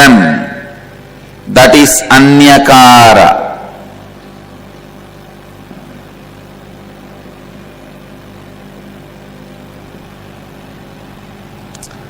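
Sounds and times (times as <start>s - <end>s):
electrical hum with low buzz: 0.0s - 12.0s.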